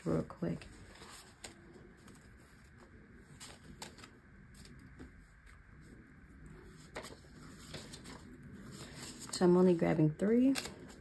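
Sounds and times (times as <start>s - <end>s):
paper banknotes rustling and flicking: 0.0s - 11.0s.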